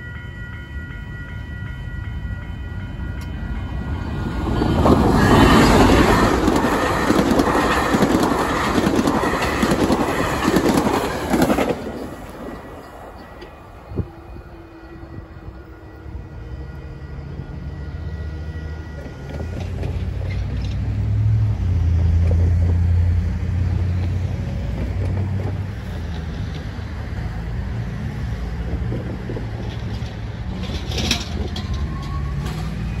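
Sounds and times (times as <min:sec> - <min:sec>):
diesel locomotive pulling away: 0:00.0 - 0:33.0.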